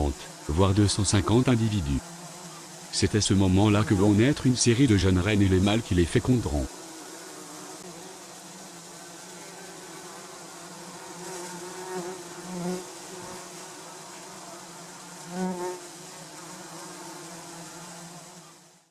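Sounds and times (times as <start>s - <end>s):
bumblebees buzzing in flight: 0.0s - 18.9s.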